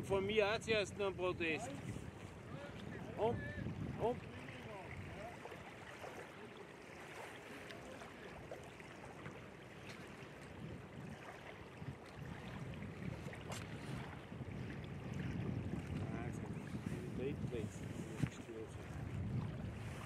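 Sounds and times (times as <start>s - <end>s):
wind rumble on microphone: 0.0s - 6.4s, 8.2s - 20.0s
small waves lapping: 0.0s - 20.0s
wind blowing over water: 0.0s - 20.0s.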